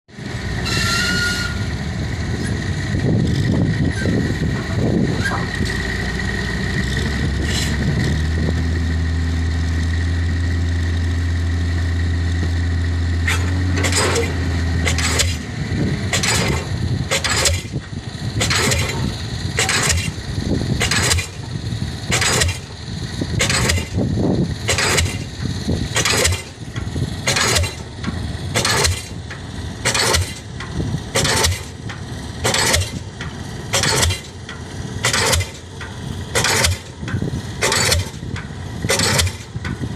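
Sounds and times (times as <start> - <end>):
crane engine running: 0.1 - 39.9
diesel pile hammer striking: 3.0 - 39.9.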